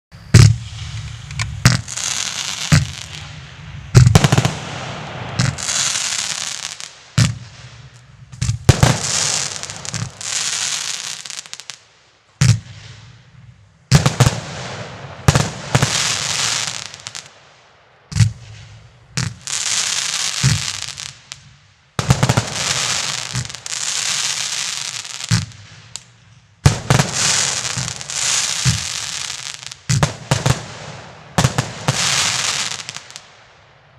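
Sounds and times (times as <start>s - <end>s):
crackling hiss: 0.1s - 33.9s
firework sharp bangs: 0.2s - 33.9s.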